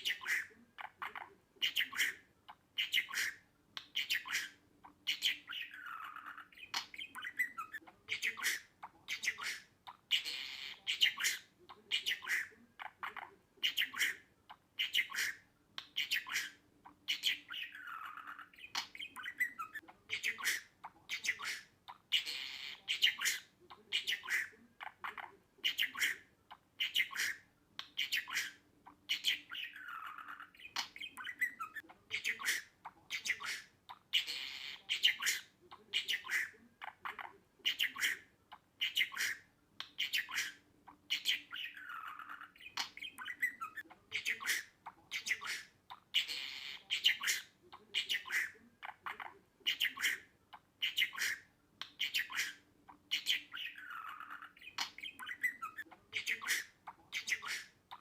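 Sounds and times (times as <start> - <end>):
budgerigar chirps and squawks: 0.0 - 58.0.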